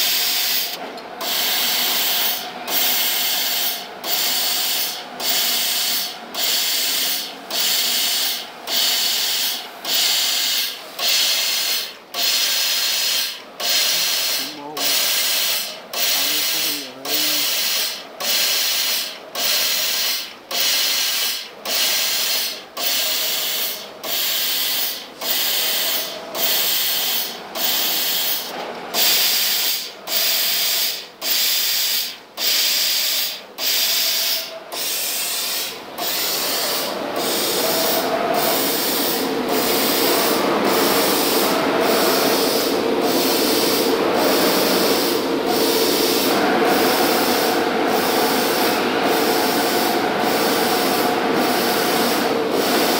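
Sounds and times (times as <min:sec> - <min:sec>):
laser cutter gas hiss: 0:00.0 - 0:52.9
machine humming: 0:00.0 - 0:52.9.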